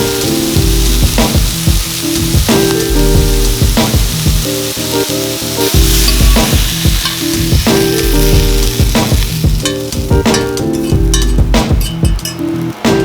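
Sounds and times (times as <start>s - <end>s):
food sizzling in frying pan: 0.0s - 13.0s
music with steady beat: 0.0s - 13.0s.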